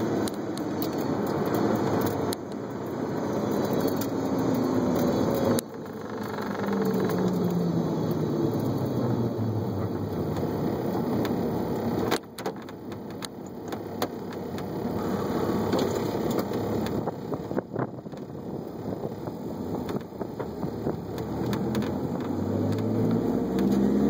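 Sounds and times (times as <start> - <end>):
car engine slowing down: 0.0 - 24.0.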